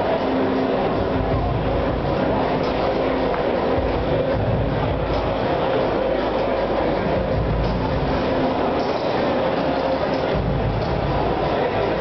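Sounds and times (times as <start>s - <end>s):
crowd hubbub in hall: 0.0s - 12.0s.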